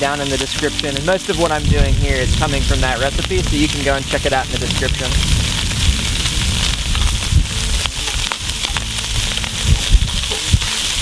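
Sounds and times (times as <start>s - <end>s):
sausage sizzling in oil: 0.0s - 11.0s.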